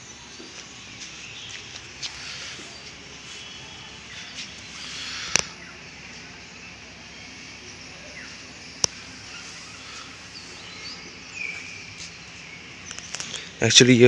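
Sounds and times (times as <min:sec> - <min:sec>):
faint bird chirps: 0:00.0 - 0:13.8
background hiss: 0:00.0 - 0:14.0.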